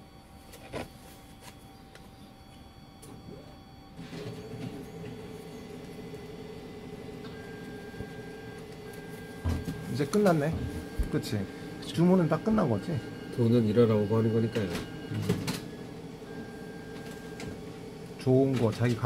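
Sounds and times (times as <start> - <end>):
printer running: 0.0 - 19.0.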